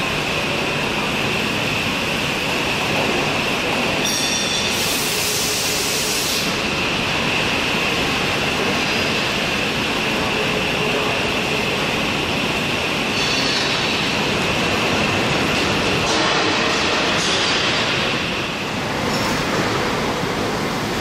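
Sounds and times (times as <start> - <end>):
continuous high whine: 0.0 - 21.0.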